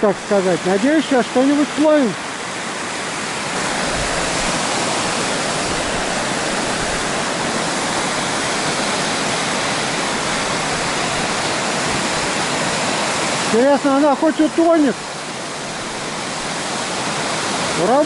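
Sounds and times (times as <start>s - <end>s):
water roaring over weir: 0.0s - 18.0s.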